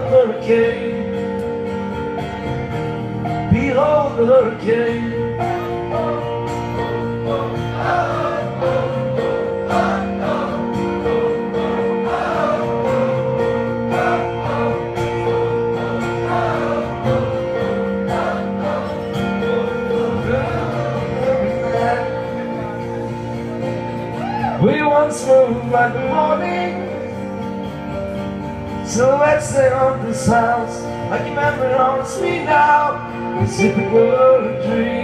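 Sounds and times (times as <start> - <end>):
acoustic guitar chords: 0.0 - 35.0
wordless vocal melody: 0.0 - 35.0.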